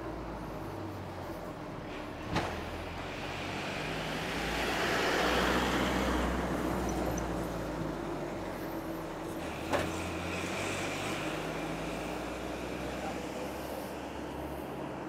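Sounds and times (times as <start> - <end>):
road noise: 0.0 - 15.0
truck passing by: 0.0 - 15.0.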